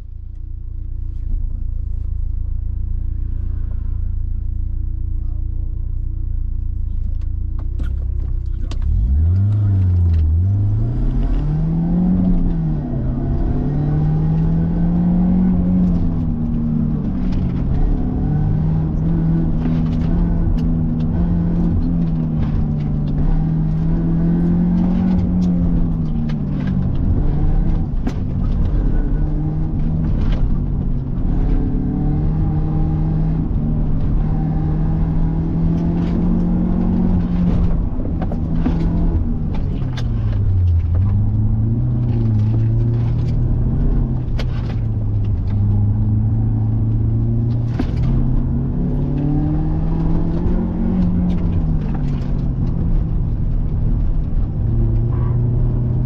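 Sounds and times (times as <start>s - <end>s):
car engine revving: 0.4s - 56.0s.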